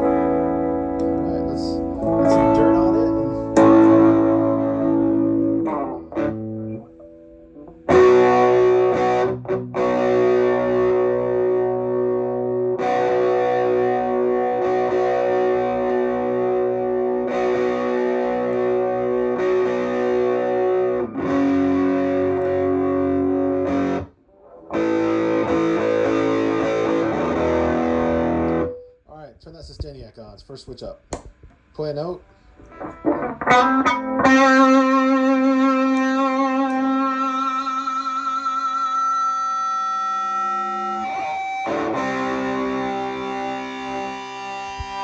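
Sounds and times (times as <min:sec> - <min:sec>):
electric guitar chords strummed: 0:00.0 - 0:29.0, 0:32.6 - 0:45.0.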